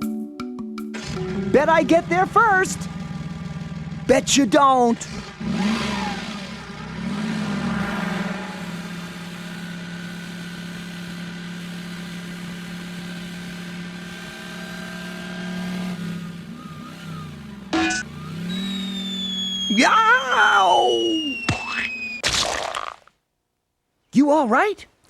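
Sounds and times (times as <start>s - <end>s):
cartoon engine revving: 1.0s - 22.9s.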